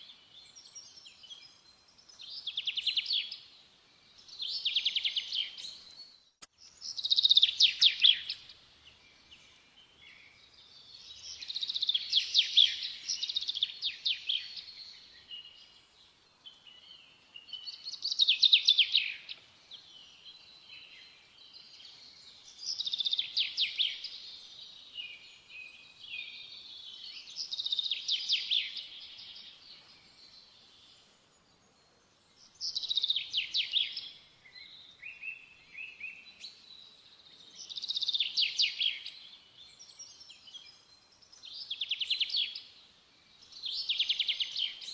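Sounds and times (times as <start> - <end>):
songbird singing trilled phrases: 0.0 - 31.0, 31.7 - 44.9
faint bird twittering: 0.0 - 44.9.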